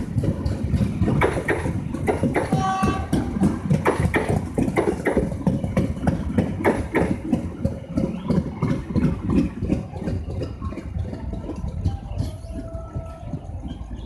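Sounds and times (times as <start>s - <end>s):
clatter of knocks: 0.0s - 13.8s
train diesel engine running: 0.0s - 14.0s.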